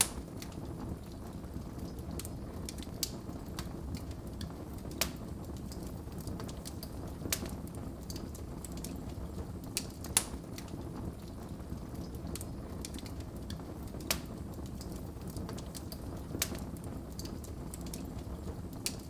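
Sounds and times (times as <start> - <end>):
fire burning in fireplace: 0.0 - 19.0
fire crackling and popping: 0.0 - 19.0.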